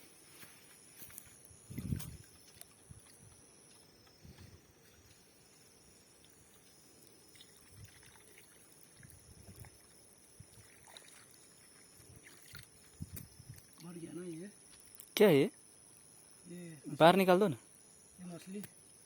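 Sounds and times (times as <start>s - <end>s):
thin high-pitched whine: 0.0s - 19.0s.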